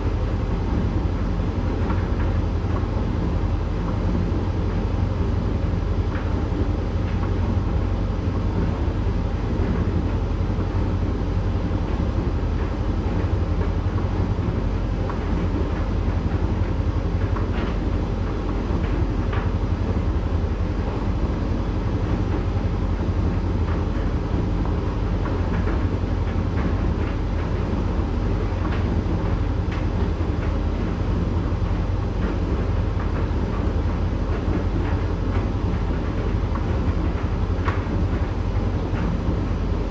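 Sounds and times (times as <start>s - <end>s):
tumble dryer rumbling: 0.0s - 39.9s.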